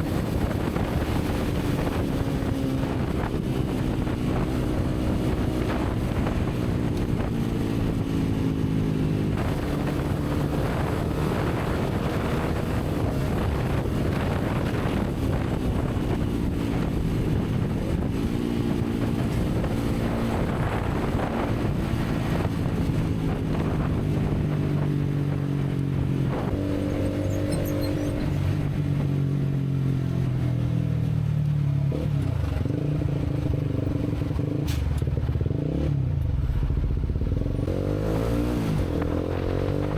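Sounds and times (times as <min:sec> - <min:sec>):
motorcycle engine revving: 0:00.0 - 0:30.8, 0:31.6 - 0:39.9.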